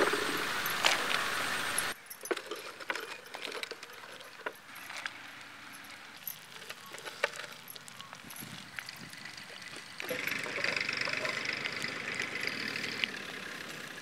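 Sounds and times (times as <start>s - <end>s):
spice crackling against clay bowl: 1.8s - 14.0s.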